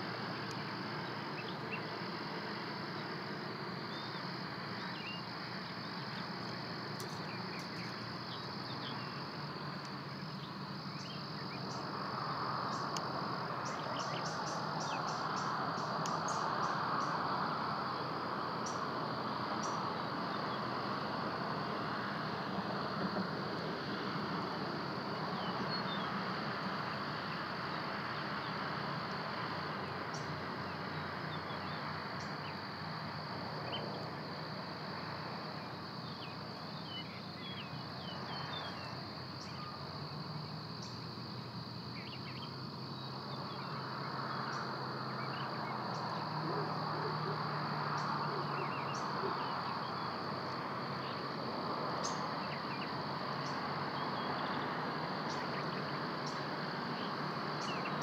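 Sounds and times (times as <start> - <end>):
songbird chirps: 0.0 - 58.0.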